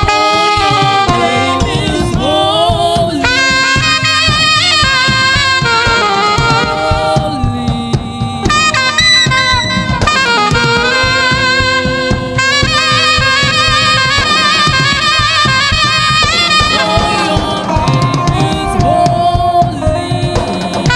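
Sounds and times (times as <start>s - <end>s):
drum kit: 0.0s - 20.9s
saxophone melody with vibrato: 0.0s - 20.9s.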